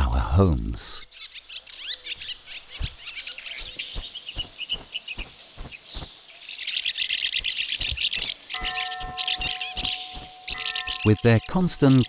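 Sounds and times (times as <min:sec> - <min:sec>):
house martins twittering: 0:00.0 - 0:12.0.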